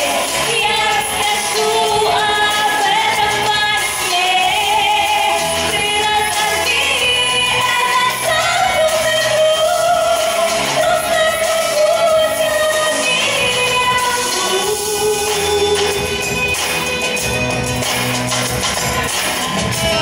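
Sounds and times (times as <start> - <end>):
woman singing into microphone: 0.0 - 16.6
accompanying music: 0.0 - 20.0.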